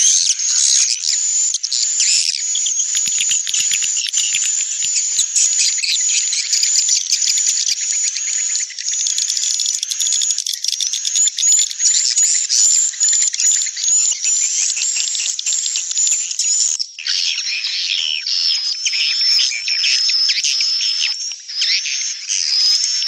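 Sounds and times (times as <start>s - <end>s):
high-pitched bird chirping and trills: 0.0s - 23.0s.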